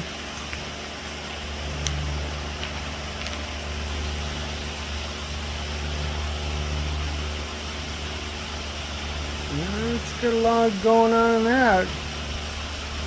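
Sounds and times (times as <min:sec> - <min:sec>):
rock saw motor humming: 0:00.0 - 0:13.0.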